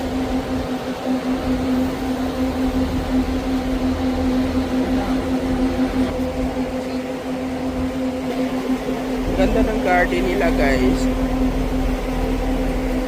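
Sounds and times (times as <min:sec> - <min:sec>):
low motor rumble: 0:00.0 - 0:13.0
machine hum: 0:00.0 - 0:13.0.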